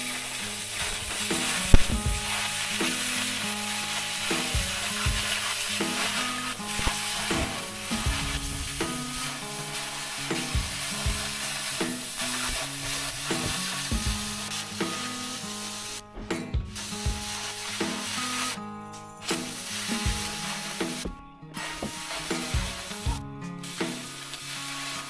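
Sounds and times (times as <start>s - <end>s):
cutting torch hissing: 0.0s - 16.1s, 16.8s - 18.6s, 19.2s - 25.0s
background music with beat: 0.0s - 25.0s.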